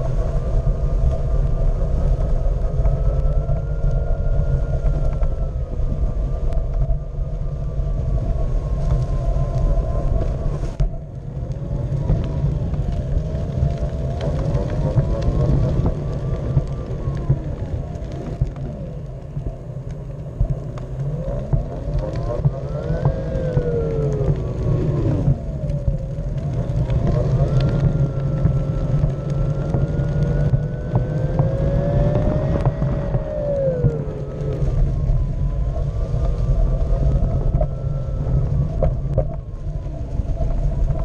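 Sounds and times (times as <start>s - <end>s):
small wheels rolling on concrete: 0.0s - 41.0s.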